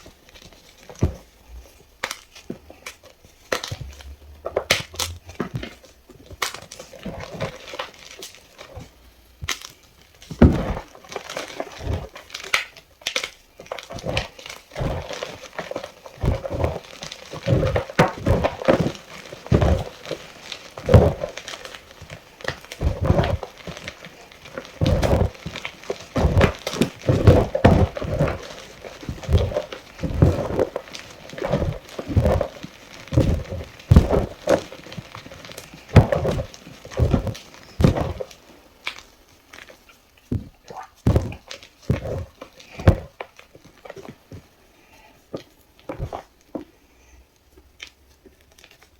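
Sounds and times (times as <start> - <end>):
chalk block crunching: 0.0 - 46.7.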